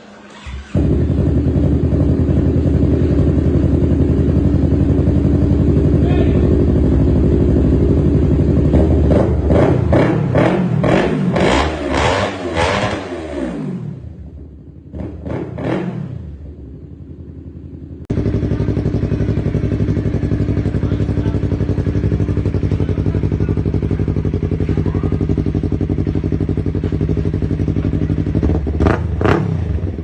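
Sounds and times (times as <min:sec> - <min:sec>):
motorcycle engine revving: 0:00.0 - 0:30.0
motorcycle engine idling: 0:00.3 - 0:10.9, 0:16.2 - 0:30.0.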